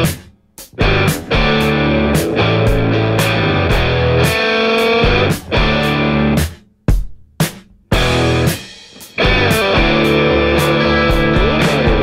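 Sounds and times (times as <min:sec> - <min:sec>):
rock music: 0:00.0 - 0:06.6, 0:07.5 - 0:12.0.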